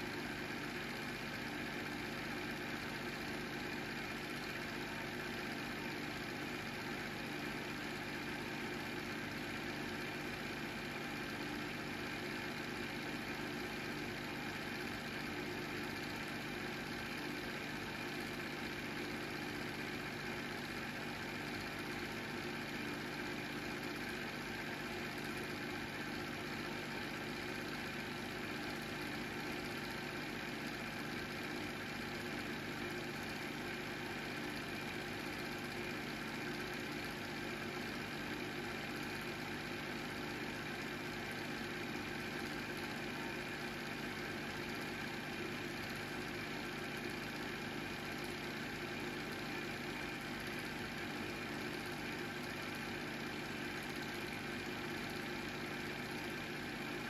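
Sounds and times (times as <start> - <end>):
film projector humming: 0.0 - 57.0.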